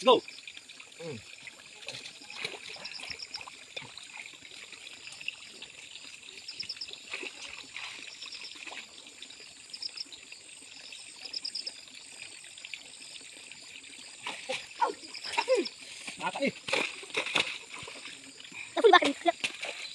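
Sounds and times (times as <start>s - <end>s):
water trickling and sloshing: 0.0s - 19.9s.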